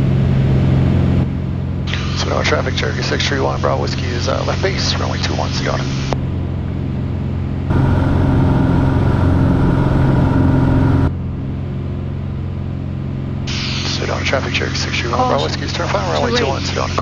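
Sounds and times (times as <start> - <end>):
aircraft piston engine droning: 0.0 - 17.0.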